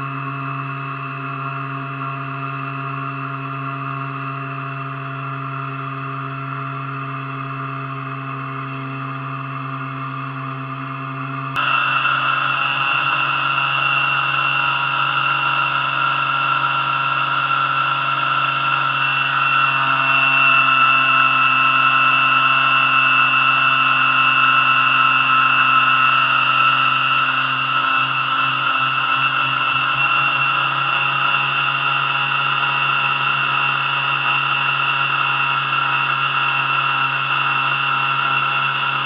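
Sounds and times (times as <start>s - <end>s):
boat motor whine: 0.0s - 39.0s.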